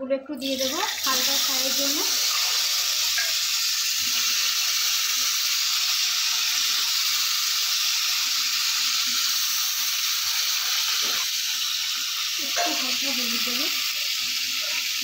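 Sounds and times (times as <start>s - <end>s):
potatoes sizzling in hot oil: 0.4s - 15.0s.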